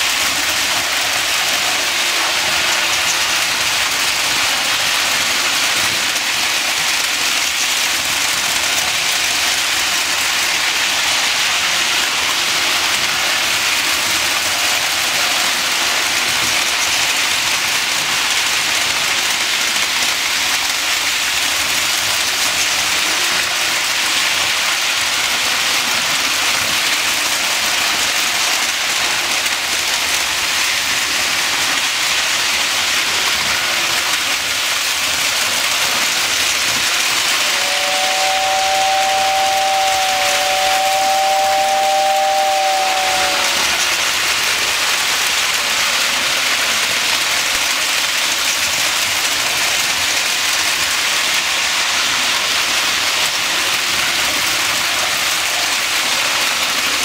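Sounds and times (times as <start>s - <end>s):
model trains rattling on rails: 0.0s - 57.0s.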